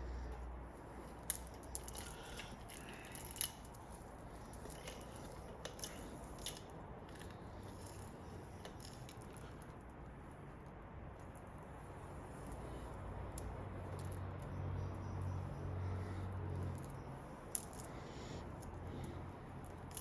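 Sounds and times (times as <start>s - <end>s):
bicycle chains clicking and clinking: 0.9s - 9.8s, 12.2s - 20.0s.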